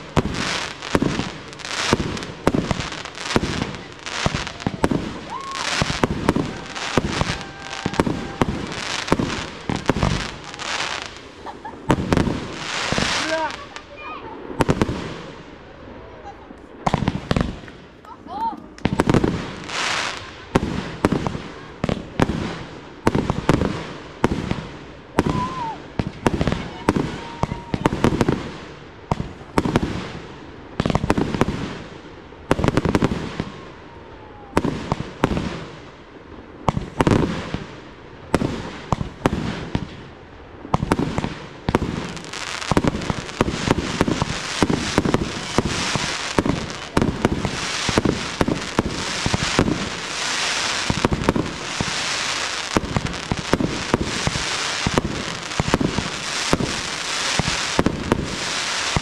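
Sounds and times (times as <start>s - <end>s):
fireworks crackling and hissing: 0.0s - 59.0s.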